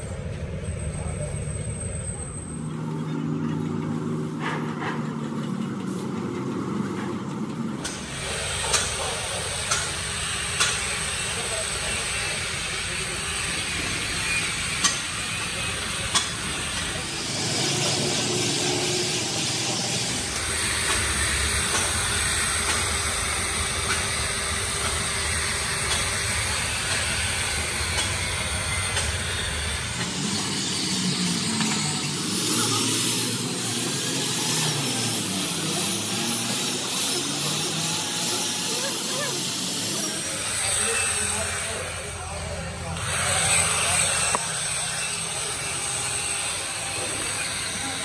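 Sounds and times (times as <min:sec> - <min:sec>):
angle grinder grinding metal: 0:03.6 - 0:48.0.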